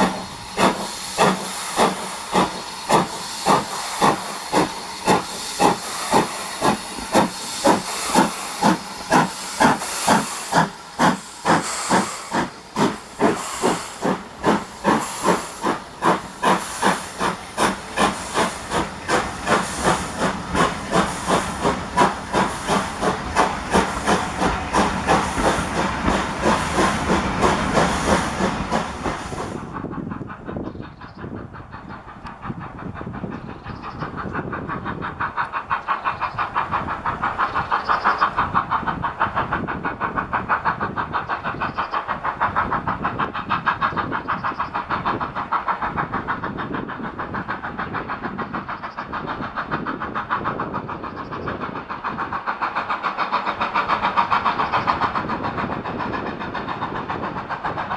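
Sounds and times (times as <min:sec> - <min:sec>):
loud steam hiss: 0:00.0 - 0:57.9
steam locomotive exhaust beats: 0:00.0 - 0:57.9.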